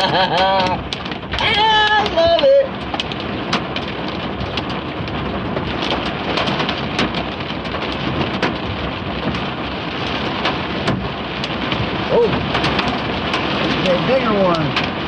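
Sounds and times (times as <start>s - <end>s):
hailstones clicking: 0.0s - 15.0s
heavy rain: 0.0s - 15.0s.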